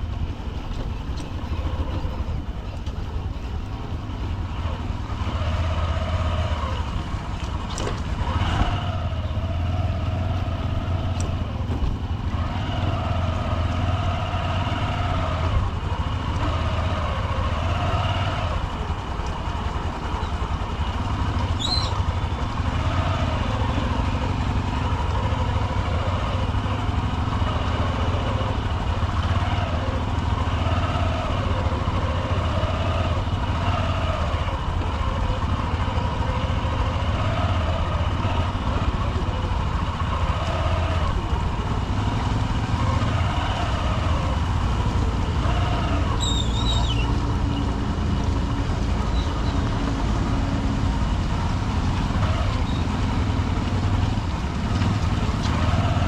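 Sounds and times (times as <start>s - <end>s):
motorcycle engine running: 0.0s - 56.0s
street traffic noise: 0.0s - 56.0s.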